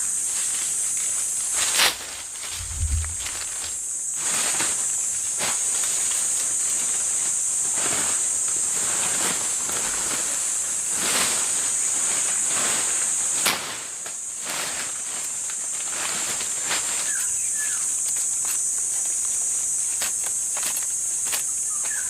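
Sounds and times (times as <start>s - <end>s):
insects droning: 0.0s - 22.0s
rustles and crunches: 0.0s - 22.0s.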